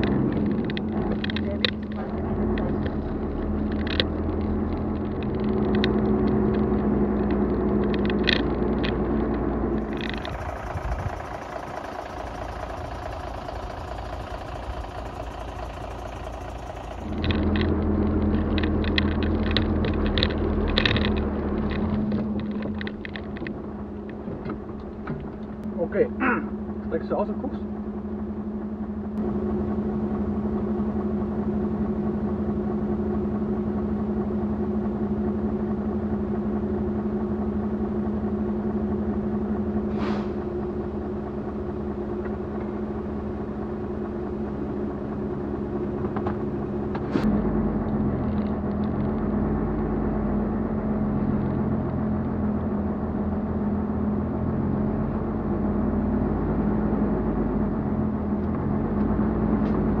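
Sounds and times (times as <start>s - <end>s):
truck engine idling: 0.0s - 60.0s.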